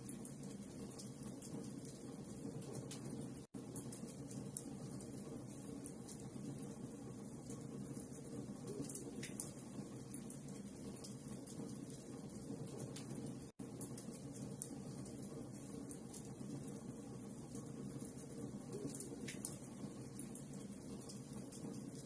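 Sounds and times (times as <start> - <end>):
fireplace fire hissing and crackling: 0.0 - 22.0.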